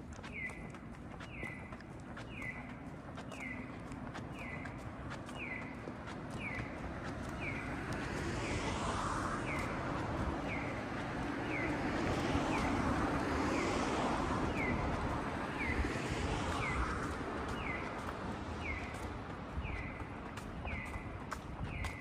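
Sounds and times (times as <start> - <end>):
distant traffic: 0.0 - 22.0
wind: 0.0 - 22.0.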